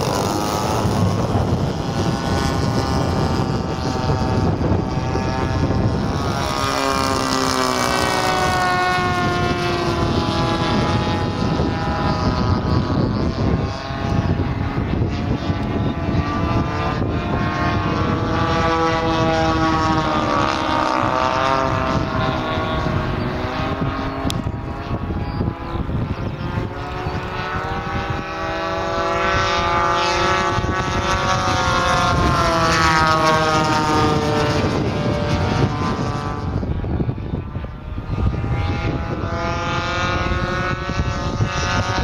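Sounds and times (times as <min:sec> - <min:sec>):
model airplane engines droning: 0:00.0 - 0:42.0.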